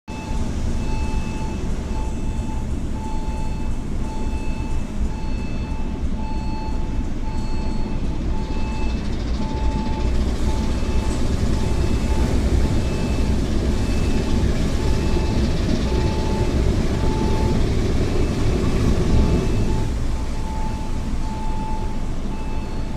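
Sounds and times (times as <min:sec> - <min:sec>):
electronic warning beeper: 0:00.1 - 0:22.9
low engine rumble: 0:00.1 - 0:22.9.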